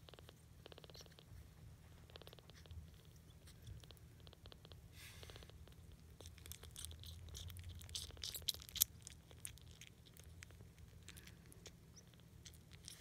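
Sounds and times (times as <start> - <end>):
kittens suckling wet smacking: 0.0 - 13.0.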